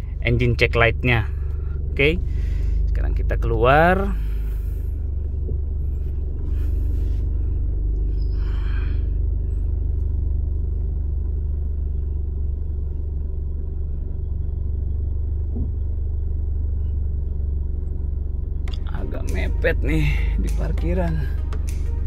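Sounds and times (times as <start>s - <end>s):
car engine rumbling in cabin: 0.0s - 22.0s.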